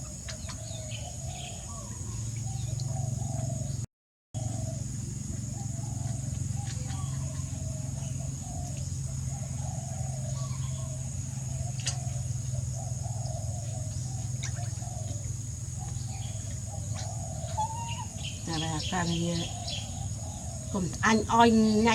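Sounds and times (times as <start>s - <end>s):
birds cooing: 0.0s - 3.8s, 4.4s - 21.9s
birds calling faintly: 0.0s - 21.9s
steady low hum: 0.0s - 21.9s.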